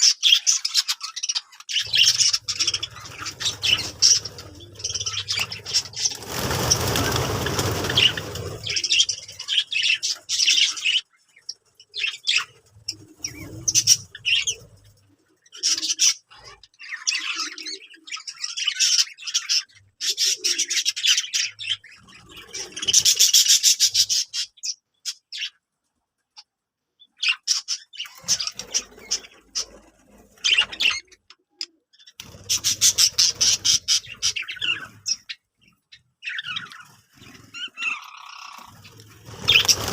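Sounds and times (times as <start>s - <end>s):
budgerigars chirping and chattering: 0.0s - 25.6s, 26.4s - 39.9s.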